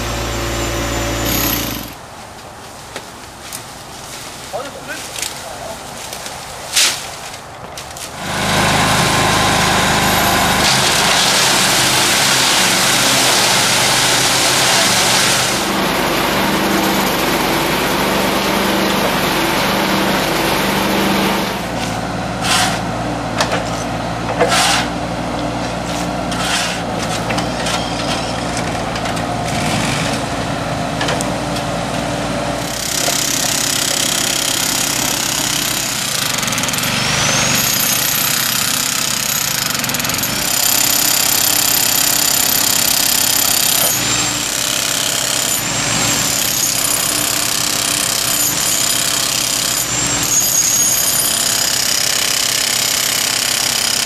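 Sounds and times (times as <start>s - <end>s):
excavator diesel engine: 0.0s - 2.0s, 8.1s - 54.0s.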